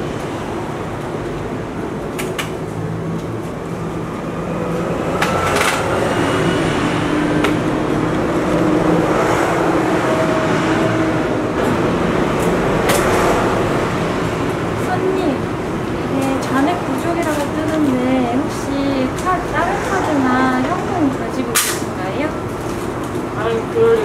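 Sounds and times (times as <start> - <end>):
road traffic engines: 0.0 - 24.0.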